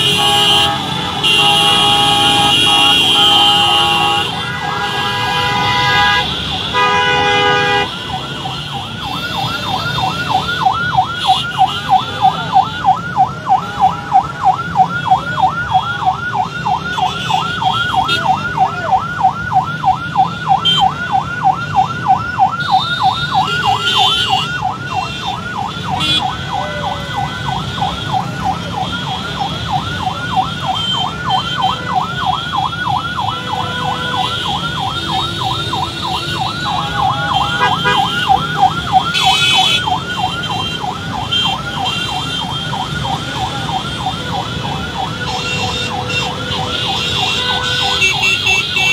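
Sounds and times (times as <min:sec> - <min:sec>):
electronic yelp siren: 0:00.0 - 0:48.9
motorbikes and road traffic: 0:00.0 - 0:48.9.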